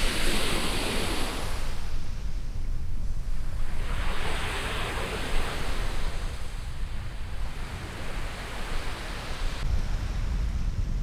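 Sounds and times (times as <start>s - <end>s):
waves washing up a beach: 0.0s - 11.0s
wind rumbling on microphone: 0.0s - 11.0s.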